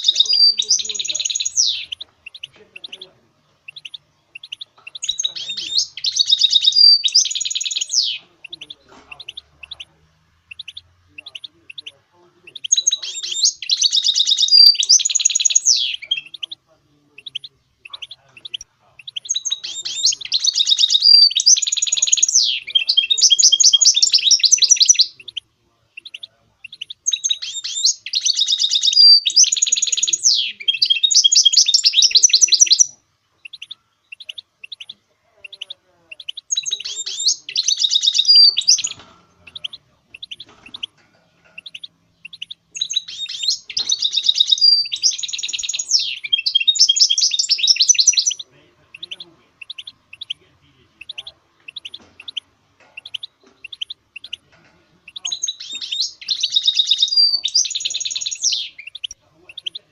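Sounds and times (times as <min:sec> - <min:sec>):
bird chirps: 0:00.0 - 0:59.9
finch twittering song: 0:00.0 - 0:59.9.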